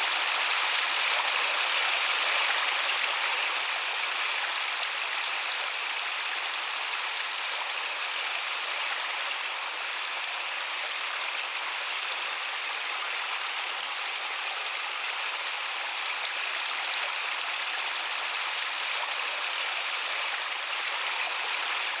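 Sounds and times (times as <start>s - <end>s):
water cascading over rocks: 0.0s - 22.0s.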